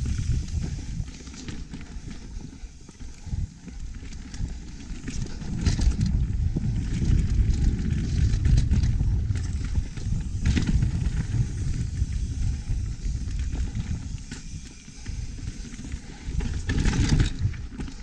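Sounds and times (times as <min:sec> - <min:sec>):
bike rattling over bumps: 0:00.0 - 0:18.0
bike tyres rumbling on dirt: 0:00.0 - 0:18.0
wind buffeting microphone: 0:00.0 - 0:18.0.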